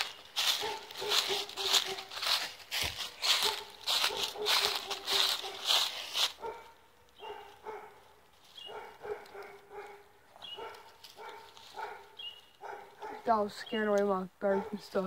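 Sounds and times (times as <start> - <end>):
dog barking: 0.4 - 2.4, 3.2 - 13.4, 14.4 - 15.0.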